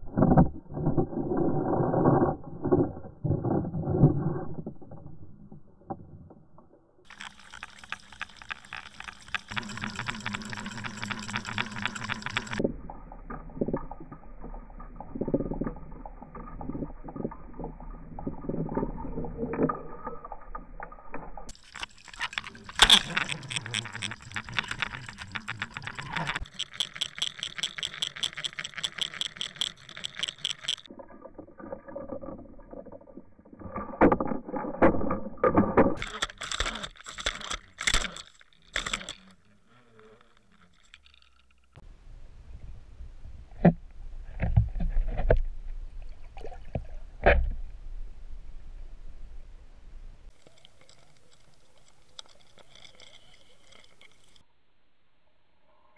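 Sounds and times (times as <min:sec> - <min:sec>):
clicks and rattles: 0:00.0 - 0:41.8, 0:50.3 - 0:54.4.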